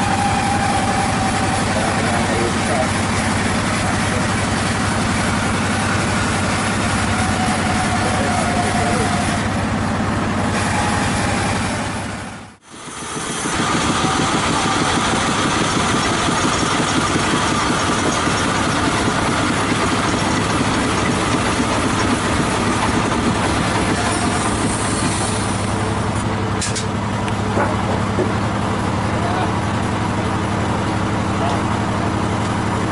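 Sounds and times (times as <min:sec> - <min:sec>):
large engine droning: 0:00.0 - 0:32.9.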